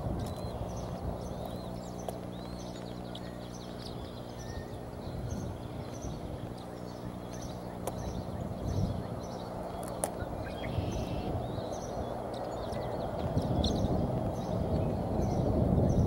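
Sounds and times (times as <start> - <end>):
wind-like noise: 0.0 - 16.0
faint high bird chirps: 0.2 - 16.0.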